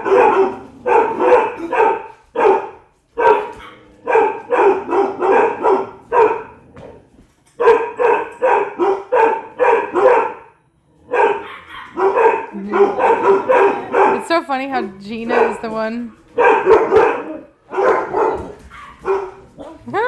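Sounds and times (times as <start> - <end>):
dogs barking: 0.0 - 6.8, 7.6 - 14.5, 15.1 - 20.0.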